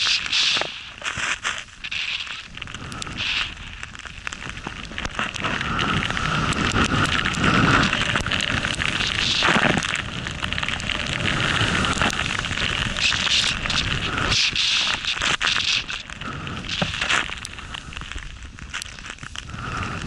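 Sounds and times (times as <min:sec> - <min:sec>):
snowboard hissing through powder snow: 0:00.0 - 0:03.9, 0:04.5 - 0:18.0, 0:18.9 - 0:20.0.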